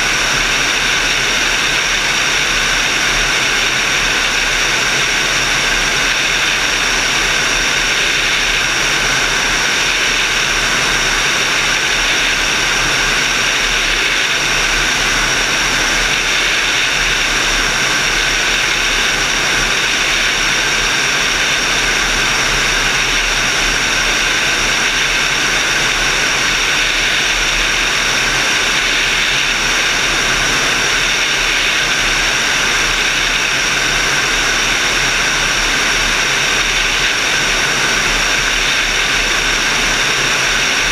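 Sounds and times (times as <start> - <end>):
rush of air in flight: 0.0 - 40.9.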